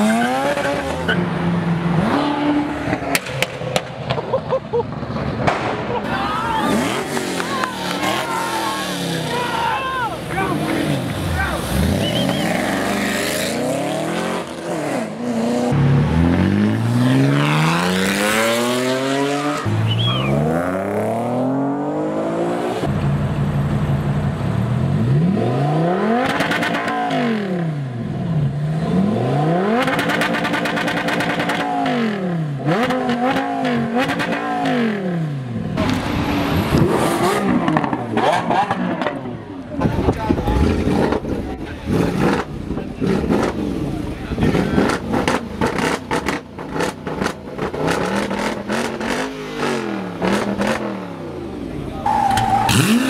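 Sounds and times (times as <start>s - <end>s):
car engine accelerating and revving: 0.0s - 3.9s, 6.6s - 53.0s.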